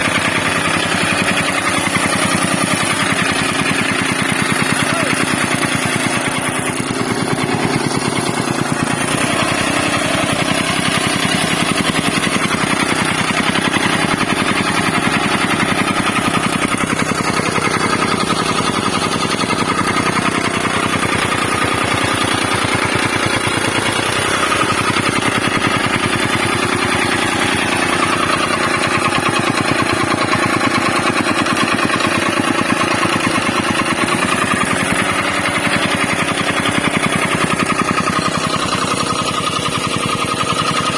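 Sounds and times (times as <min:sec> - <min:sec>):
soil compactor pounding: 0:00.0 - 0:40.9.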